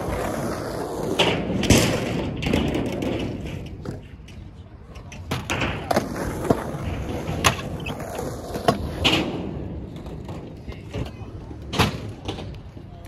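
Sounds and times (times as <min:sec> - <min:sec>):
scooter wheels rolling on concrete: 0:00.0 - 0:13.0.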